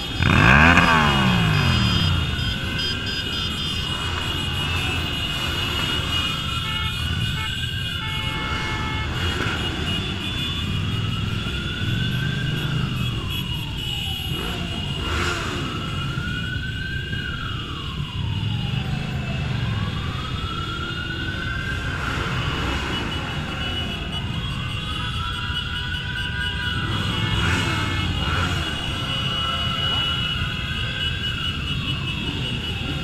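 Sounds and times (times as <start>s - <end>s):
motorcycle engines running: 0.0s - 7.9s, 9.0s - 33.0s
siren wailing: 0.0s - 33.0s.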